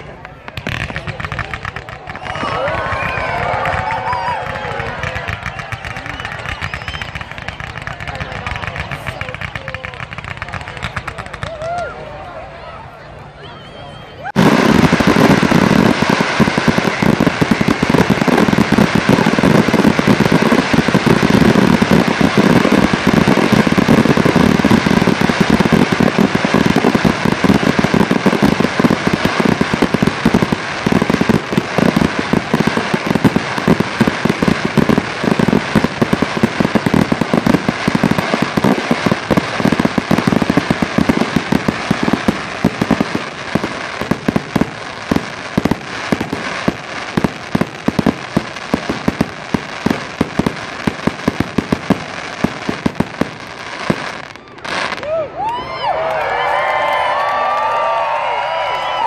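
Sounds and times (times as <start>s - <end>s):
fireworks bursting: 0.0s - 12.0s, 14.3s - 59.0s.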